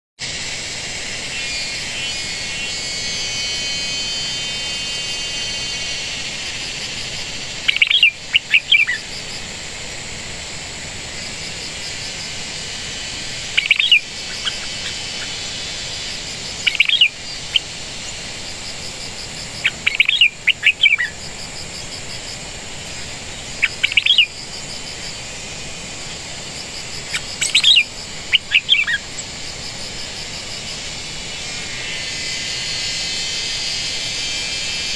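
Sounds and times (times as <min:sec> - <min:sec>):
high-pitched background hiss: 0:00.2 - 0:34.9
bird chirping: 0:01.0 - 0:25.4, 0:26.0 - 0:31.3.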